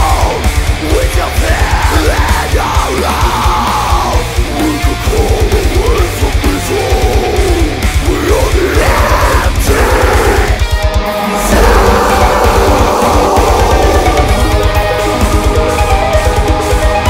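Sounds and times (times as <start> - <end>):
harsh screamed vocals: 0.0 - 14.6
distorted electric guitars: 0.0 - 17.0.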